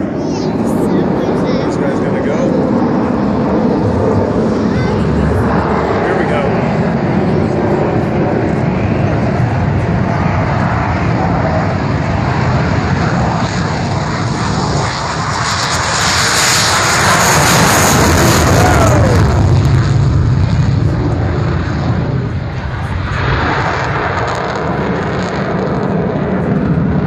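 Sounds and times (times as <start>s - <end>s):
jet engine roar: 0.0s - 27.0s
jet whine falling in pitch: 0.0s - 27.0s.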